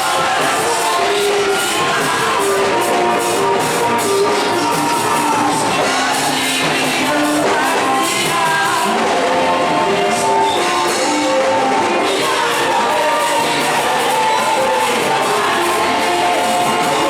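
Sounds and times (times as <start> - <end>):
worship song with singing: 0.0 - 17.0.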